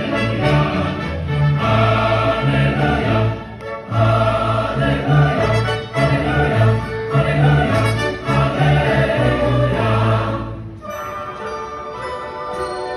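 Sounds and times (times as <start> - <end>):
large choir singing: 0.0 - 12.9
orchestra playing: 0.0 - 12.9.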